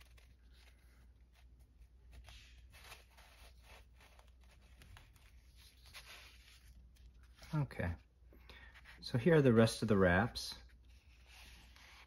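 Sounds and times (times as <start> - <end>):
paper pages rustling: 0.0 - 9.3, 10.6 - 12.0.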